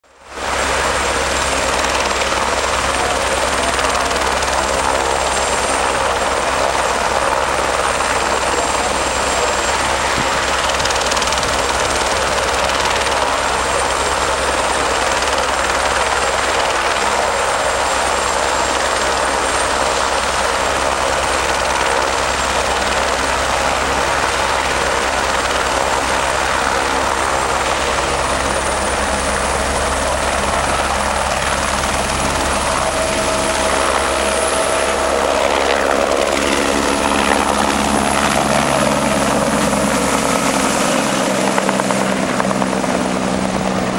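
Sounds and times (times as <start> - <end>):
helicopter rotor noise: 0.0 - 43.9
turbine engine whine: 0.0 - 43.9.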